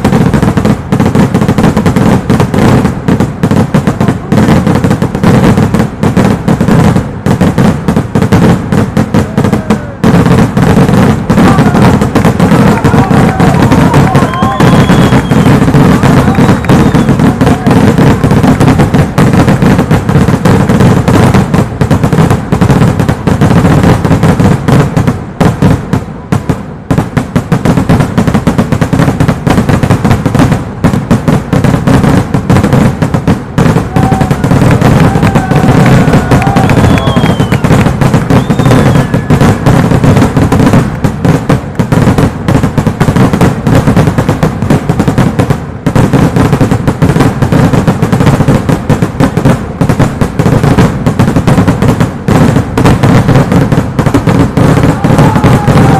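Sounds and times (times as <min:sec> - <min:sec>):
firecrackers banging and crackling: 0:00.0 - 0:55.9.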